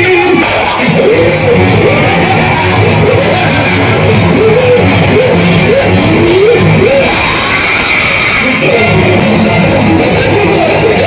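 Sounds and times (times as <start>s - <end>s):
loud music with low beat: 0.0s - 11.0s.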